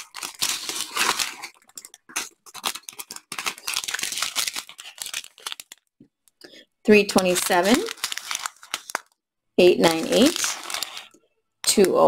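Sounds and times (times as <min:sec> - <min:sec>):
small plastic bags crinkling: 0:00.0 - 0:12.0.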